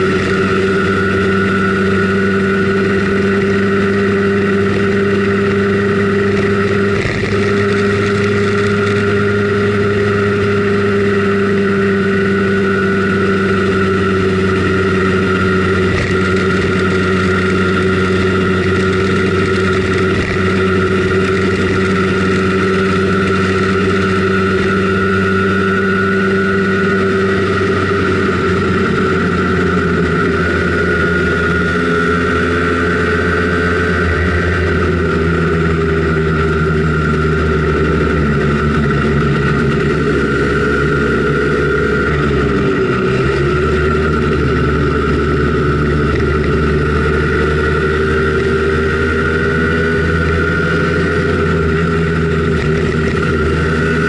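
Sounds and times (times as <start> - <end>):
two-stroke scooter engine running: 0.0 - 54.0.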